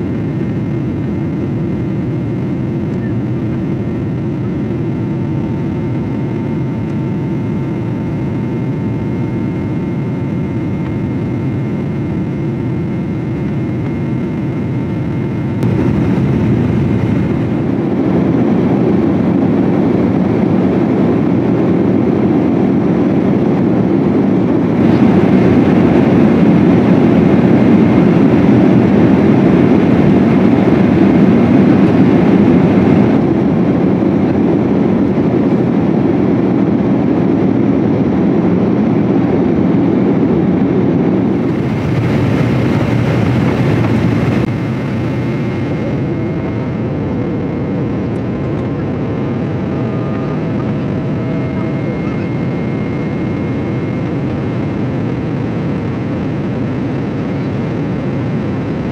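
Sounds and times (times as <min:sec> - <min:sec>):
airplane cabin engine rush: 0:00.0 - 0:58.9.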